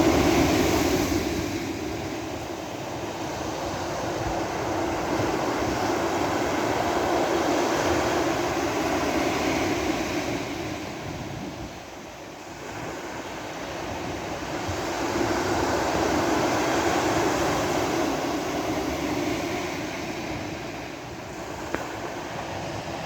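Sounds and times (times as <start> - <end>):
sea waves breaking on beach: 0.0 - 23.0.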